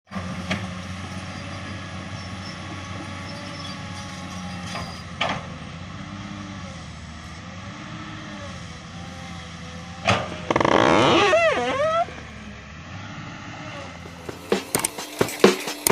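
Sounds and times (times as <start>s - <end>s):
excavator diesel engine running: 0.1s - 15.9s.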